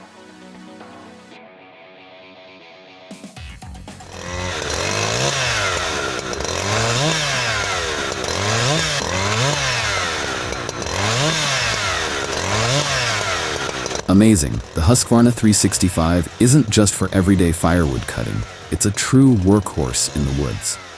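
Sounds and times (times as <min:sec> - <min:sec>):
chainsaw revving: 0:03.5 - 0:20.9.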